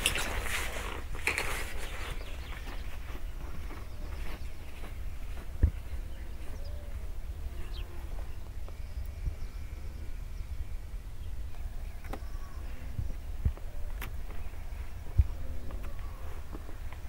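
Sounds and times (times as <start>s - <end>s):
wind rumbling on microphone: 0.0s - 17.0s
faint bird chirps: 1.5s - 16.7s.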